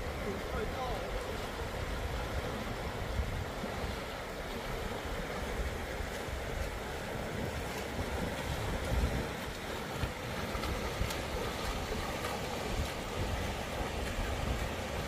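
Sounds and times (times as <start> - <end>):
river water rushing: 0.0 - 15.0
wind buffeting microphone: 0.0 - 15.0.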